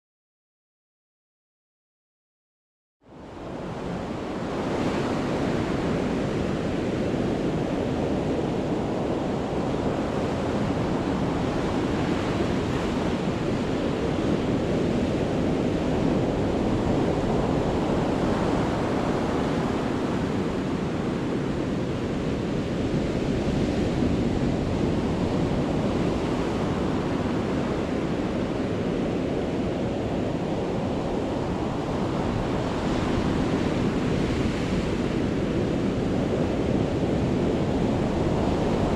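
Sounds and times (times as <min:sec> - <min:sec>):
sea surf crashing on shore: 0:03.7 - 0:38.9.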